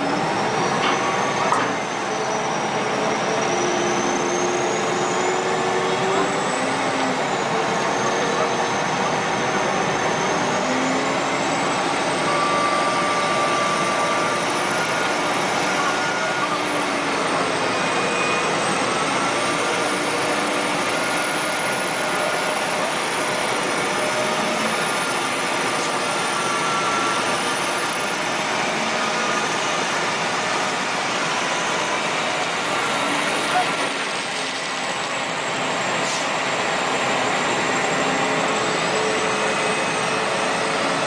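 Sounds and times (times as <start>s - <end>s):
diesel engine running hard: 0.0s - 41.0s.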